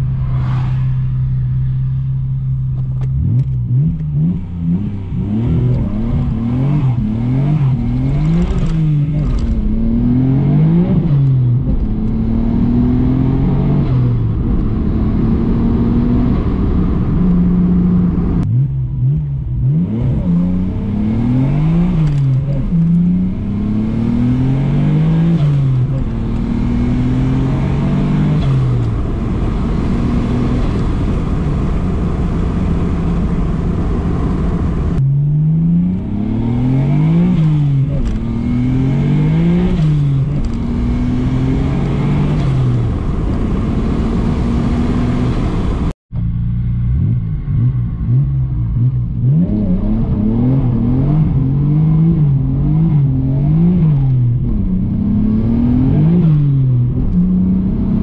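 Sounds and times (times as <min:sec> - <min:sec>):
car engine accelerating through gears: 0:00.0 - 0:45.9, 0:46.7 - 0:58.0.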